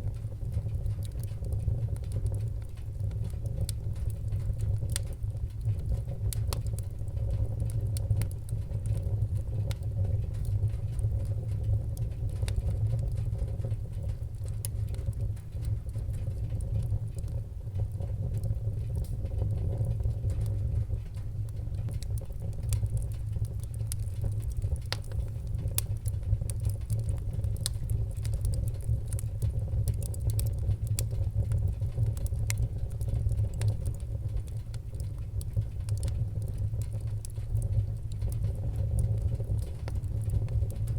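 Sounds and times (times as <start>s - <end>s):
fire crackling and popping: 0.0s - 40.9s
fire flames rumbling: 0.0s - 40.9s.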